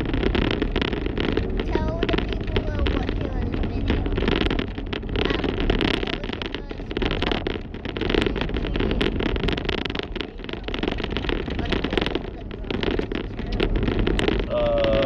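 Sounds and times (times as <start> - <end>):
short crackling clicks: 0.0 - 14.5
road and wind noise in car: 0.0 - 15.0.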